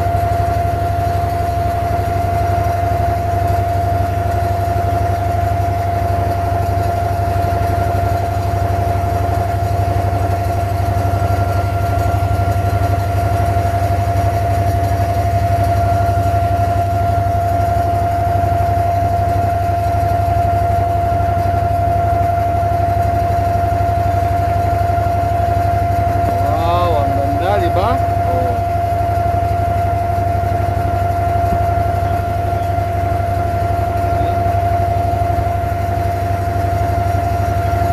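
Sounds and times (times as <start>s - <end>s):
boat diesel engine droning: 0.0s - 37.9s.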